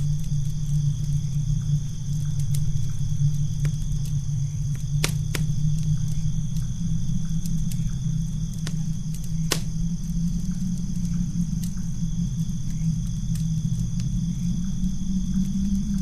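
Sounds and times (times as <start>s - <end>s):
campfire crackling and popping: 0.0s - 16.0s
low steady rumble: 0.0s - 16.0s.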